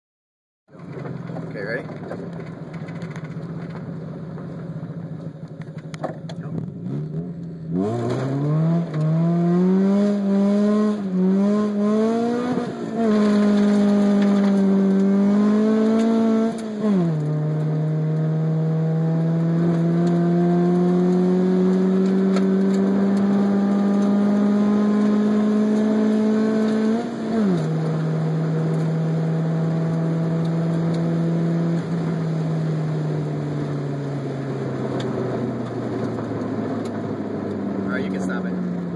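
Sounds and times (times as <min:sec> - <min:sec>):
car engine accelerating: 0:00.7 - 0:38.9.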